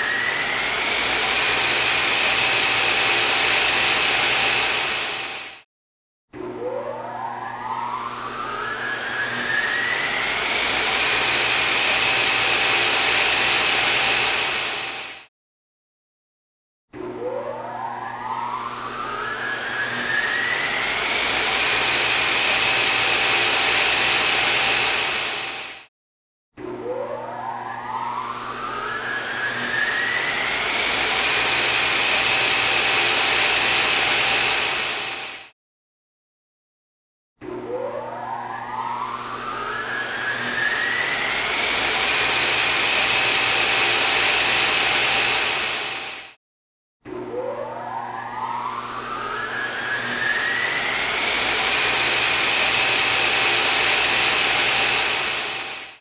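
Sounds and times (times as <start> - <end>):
motor whine spinning up: 0.0 - 5.7, 6.4 - 15.3, 16.9 - 25.9, 26.6 - 35.5, 37.4 - 46.4, 47.1 - 56.0.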